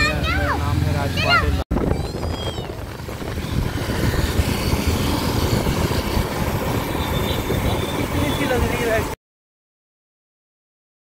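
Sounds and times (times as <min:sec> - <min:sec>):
motorcycles passing: 0:00.0 - 0:09.2
traffic noise: 0:00.0 - 0:09.2.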